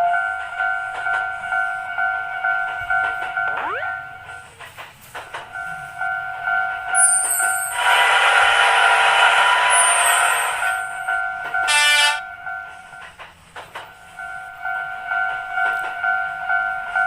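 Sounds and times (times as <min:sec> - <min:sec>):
level-crossing warning bell: 0:00.0 - 0:17.0
train passing rattling: 0:00.0 - 0:17.0.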